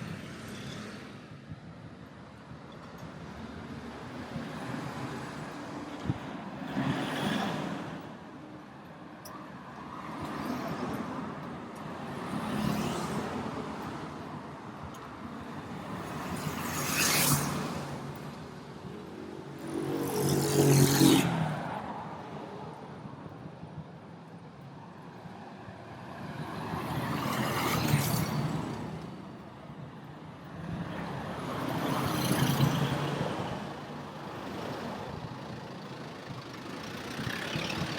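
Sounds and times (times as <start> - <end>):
cars passing: 3.3 - 37.9.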